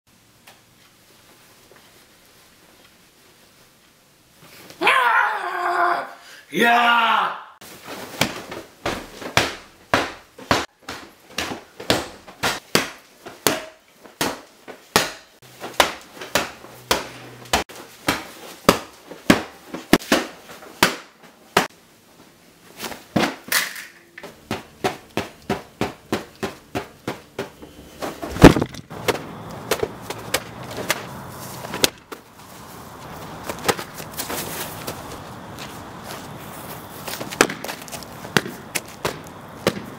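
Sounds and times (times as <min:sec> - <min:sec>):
steady outdoor hiss: 0:00.1 - 0:04.8, 0:07.5 - 0:39.9.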